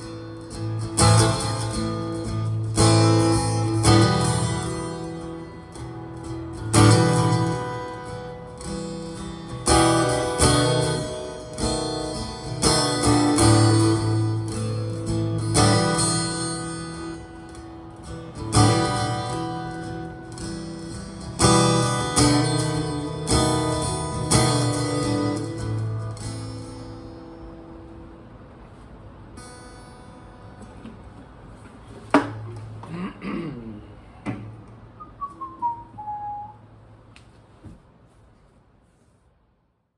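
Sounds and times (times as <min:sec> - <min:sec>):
acoustic guitar strumming: 0:00.0 - 0:28.3, 0:29.4 - 0:31.1, 0:34.4 - 0:36.7.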